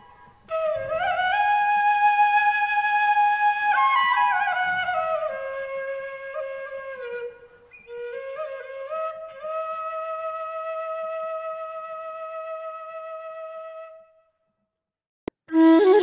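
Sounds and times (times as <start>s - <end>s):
solo flute melody: 0.0s - 14.2s, 15.3s - 16.0s.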